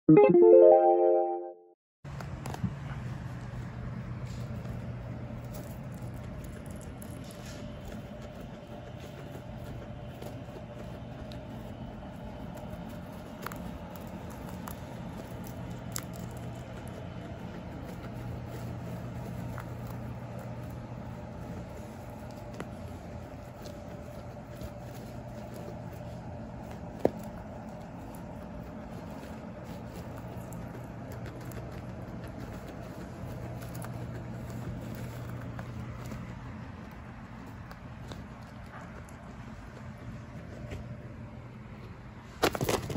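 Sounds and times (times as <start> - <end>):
low background hum: 2.1 - 42.9
guinea pig chewing hay: 2.4 - 42.9.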